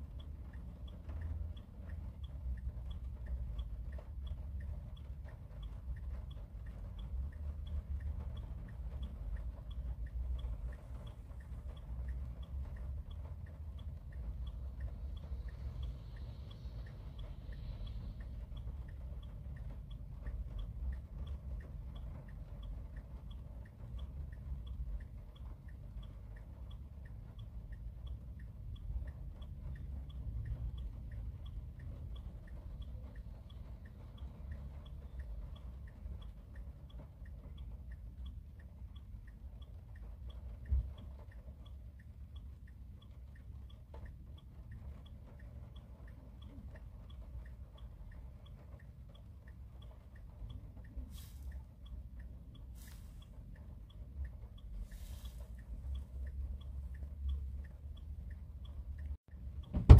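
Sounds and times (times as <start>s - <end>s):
rain pattering on car roof: 0.0s - 17.4s, 18.2s - 59.9s
steady ticking: 0.0s - 59.9s.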